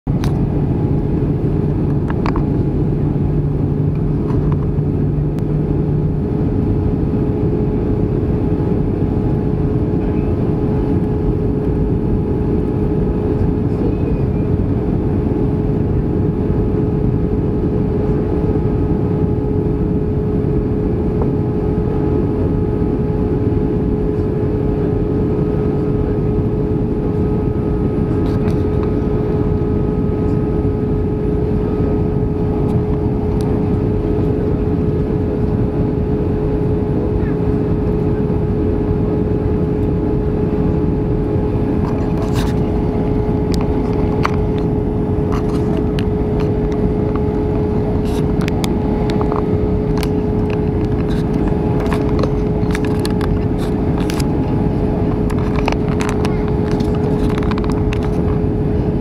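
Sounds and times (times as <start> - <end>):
airplane cabin engine roar: 0.1 - 59.0
constant hum: 0.1 - 59.0
lower hum: 0.1 - 59.0.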